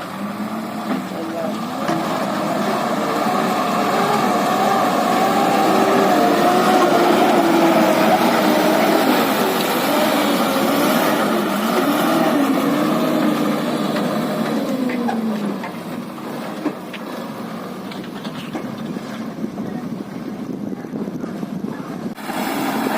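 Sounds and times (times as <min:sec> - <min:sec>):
diesel engine under load: 0:00.0 - 0:22.9.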